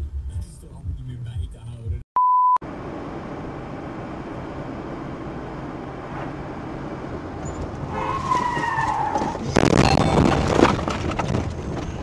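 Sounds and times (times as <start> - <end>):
car road and engine noise: 0.0 - 2.0, 2.6 - 12.0.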